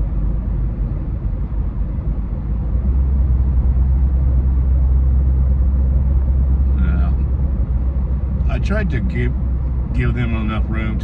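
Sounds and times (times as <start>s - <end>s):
tyres and engine rumble: 0.0s - 11.0s.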